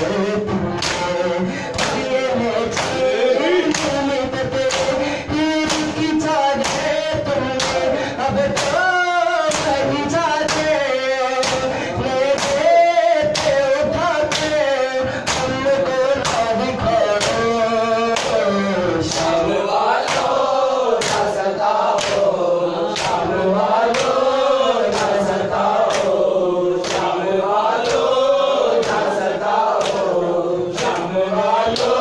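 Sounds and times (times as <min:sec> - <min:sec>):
hands striking chests rhythmically: 0:00.0 - 0:32.0
men singing a lament: 0:00.0 - 0:32.0.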